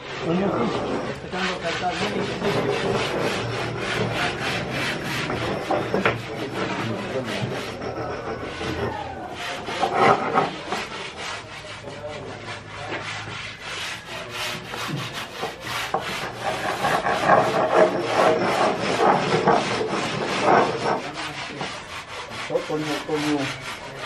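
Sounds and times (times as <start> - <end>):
hand tool scraping wood: 0.0 - 24.0.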